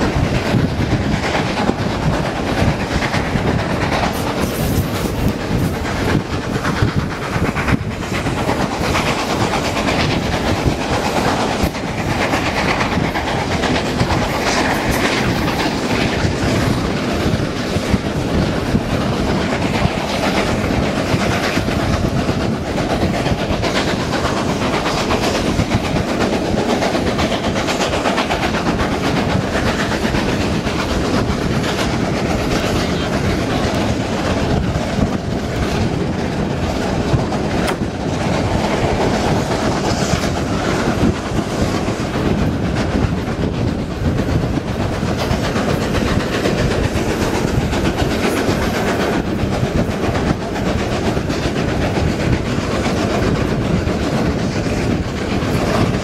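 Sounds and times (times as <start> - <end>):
steam locomotive exhaust: 0.0 - 56.0
wheels clattering on rails: 0.0 - 56.0
wind: 0.0 - 56.0.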